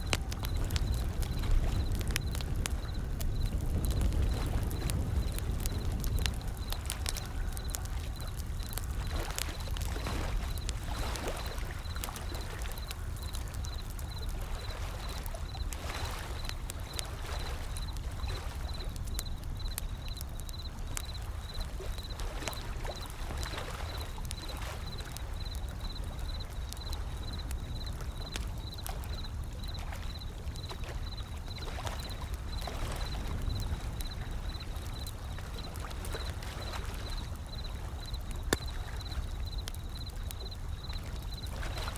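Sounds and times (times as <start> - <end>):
low rumble of surf: 0.0 - 41.9
wood fire crackling: 0.0 - 41.9.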